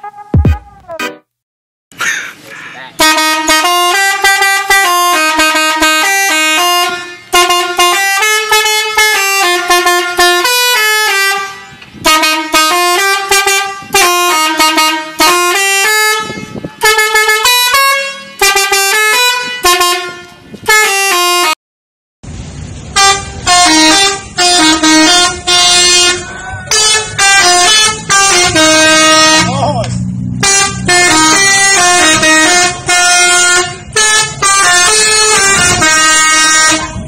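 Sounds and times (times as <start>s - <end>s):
musical bus horn melody: 0.0s - 1.2s, 3.0s - 21.6s, 22.9s - 37.0s.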